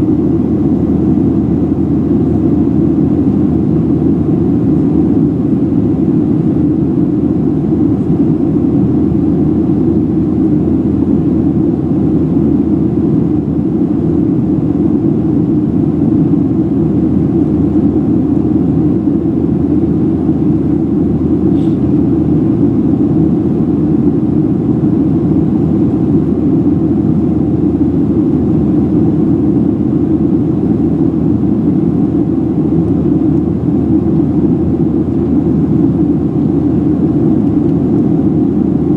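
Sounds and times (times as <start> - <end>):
jet engines humming: 0.0 - 38.9.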